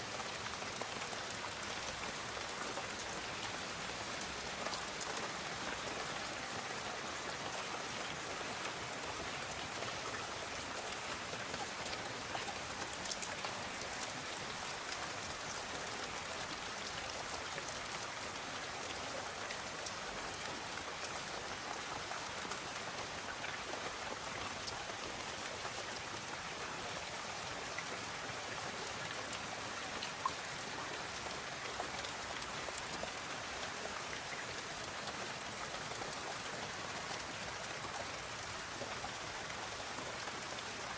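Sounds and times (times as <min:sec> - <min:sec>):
steady rainfall patter: 0:00.0 - 0:40.9.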